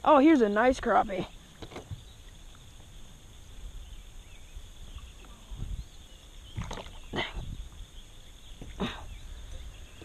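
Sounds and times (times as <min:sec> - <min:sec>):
wind rumble on microphone: 0:01.6 - 0:10.0.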